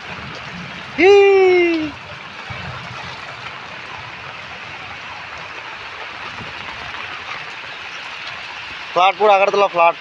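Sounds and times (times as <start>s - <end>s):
rain falling on floodwater: 0.0s - 10.0s.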